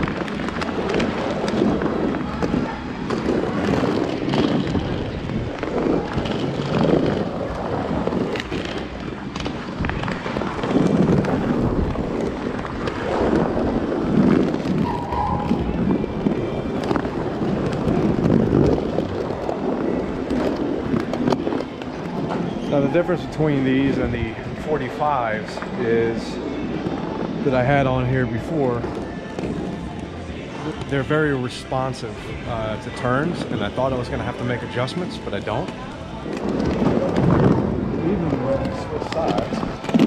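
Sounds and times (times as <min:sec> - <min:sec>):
roller skate wheels rumbling on wood: 0:00.0 - 0:40.0
wind noise on microphone: 0:00.0 - 0:40.0.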